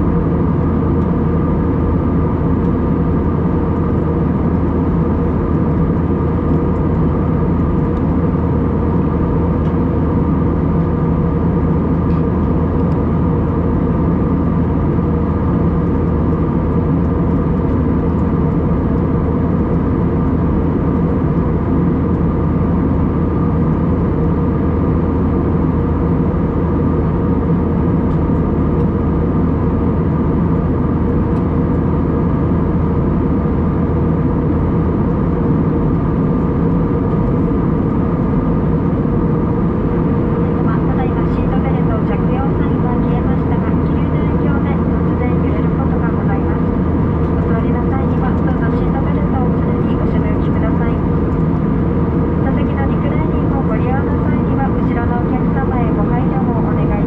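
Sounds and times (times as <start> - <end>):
aircraft cabin engine roar: 0.0 - 57.0.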